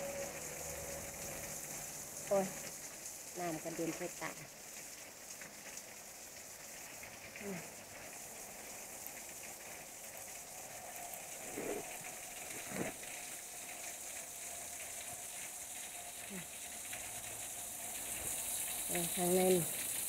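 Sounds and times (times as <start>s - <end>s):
water running under ice: 0.0s - 20.0s.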